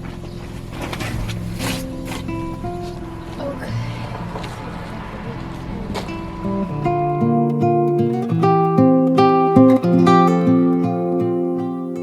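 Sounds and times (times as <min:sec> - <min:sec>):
acoustic guitar chord strummed: 0:00.0 - 0:12.0.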